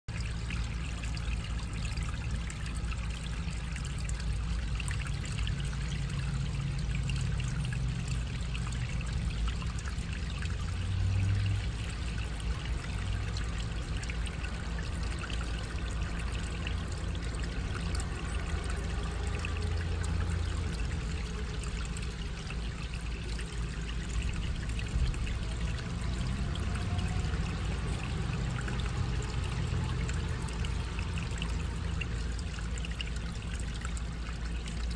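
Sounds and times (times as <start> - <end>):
low steady rumble: 0.1 - 34.9
water trickling over gravel: 0.1 - 34.9.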